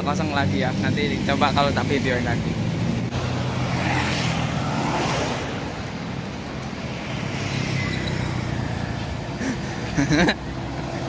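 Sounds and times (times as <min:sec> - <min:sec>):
vehicle passing: 0:00.7 - 0:11.0.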